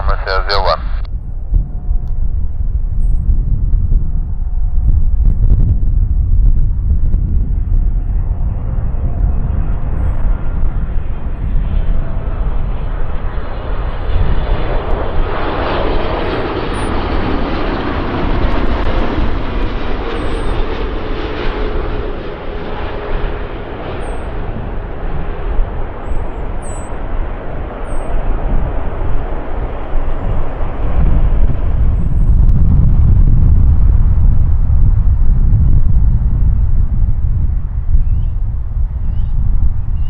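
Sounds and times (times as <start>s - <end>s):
deep rumble: 0.0s - 40.0s
jet engines rushing: 0.0s - 40.0s.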